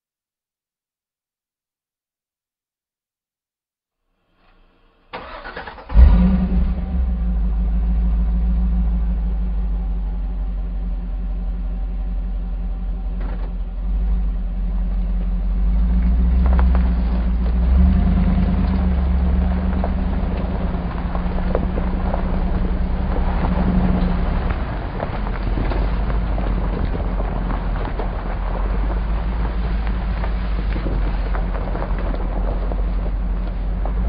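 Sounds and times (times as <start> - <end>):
tyres on gravel road: 4.3 - 34.0
engine idling: 5.2 - 34.0.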